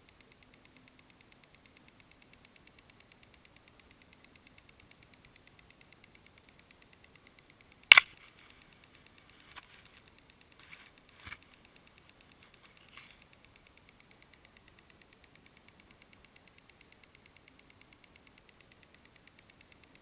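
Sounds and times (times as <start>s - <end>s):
faint steady ticking: 0.0s - 20.0s.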